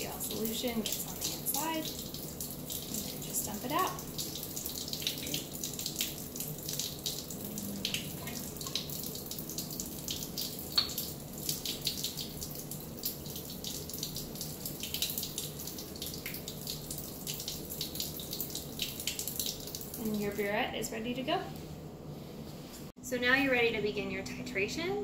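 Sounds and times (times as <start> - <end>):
faucet water splashing into sink: 0.0 - 20.6.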